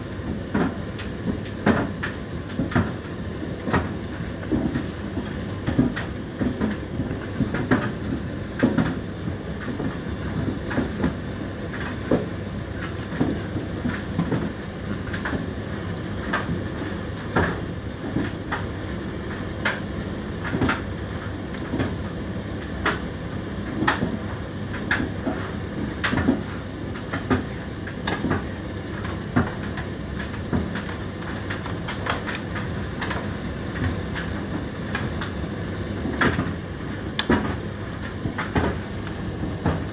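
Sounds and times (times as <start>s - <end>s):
tumble dryer motor hum: 0.0s - 39.9s.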